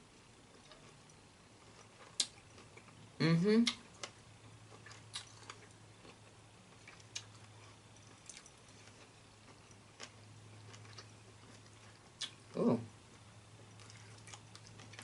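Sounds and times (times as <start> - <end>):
low steady hum: 0.0 - 15.0
chewing and mouth sounds: 0.5 - 15.0.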